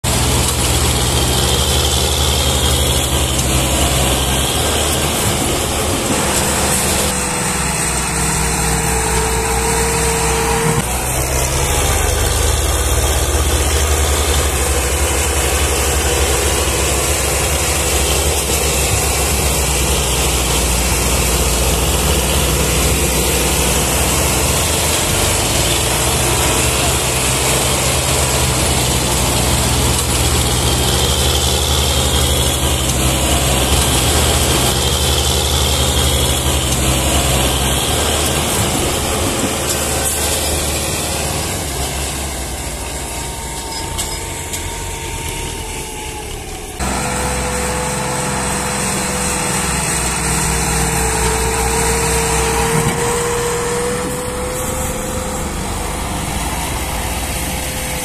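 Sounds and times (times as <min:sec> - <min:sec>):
tractor diesel engine running hard: 0:00.0 - 0:58.0.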